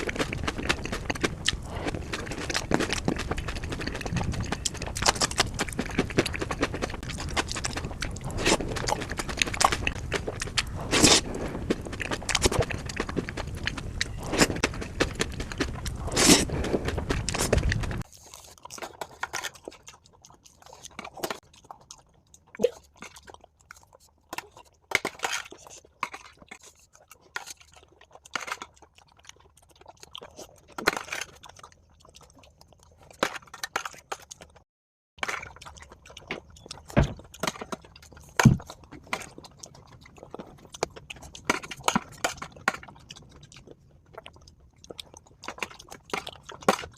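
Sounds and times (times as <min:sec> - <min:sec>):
crunching and chewing food: 0:00.0 - 0:46.9.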